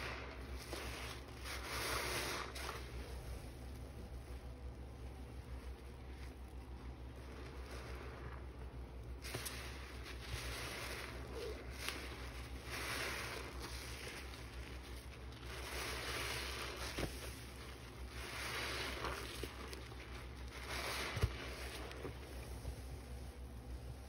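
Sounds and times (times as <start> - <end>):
sponge squishing in soap suds: 0.0 - 24.0.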